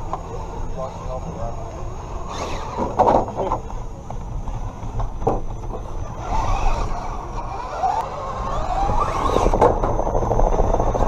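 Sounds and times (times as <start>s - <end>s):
electric drivetrain whine: 0.0s - 11.0s
tires scraping and clicking on rock: 0.0s - 11.0s.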